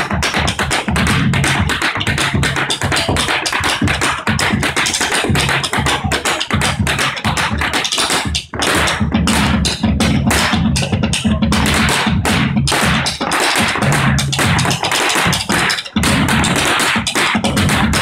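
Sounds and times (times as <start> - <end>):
drum-led percussion music: 0.0 - 18.0.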